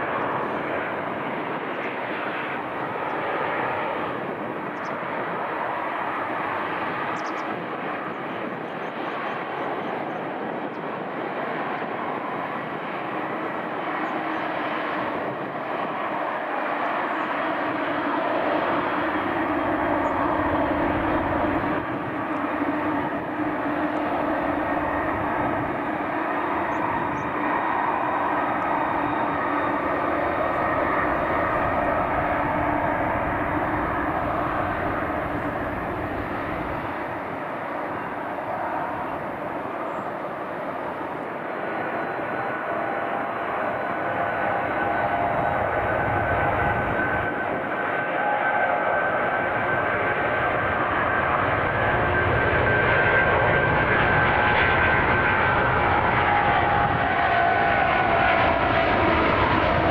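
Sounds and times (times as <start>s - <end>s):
jet engines at taxi power: 0.0s - 59.9s.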